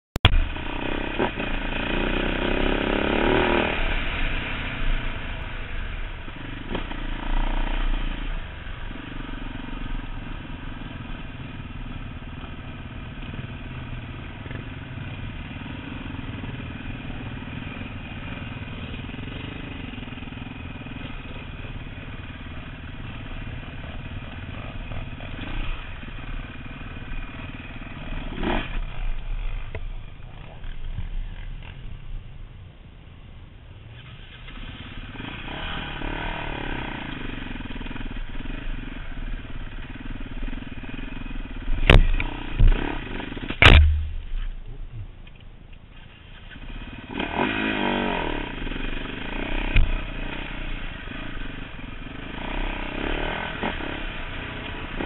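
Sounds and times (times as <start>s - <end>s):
dirt bike engine revving: 0.2s - 31.8s, 33.9s - 44.6s, 46.0s - 55.0s.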